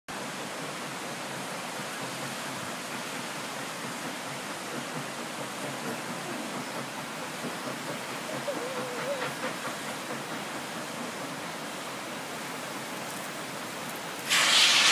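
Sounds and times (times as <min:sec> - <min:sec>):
creek water flowing: 0:00.1 - 0:14.9.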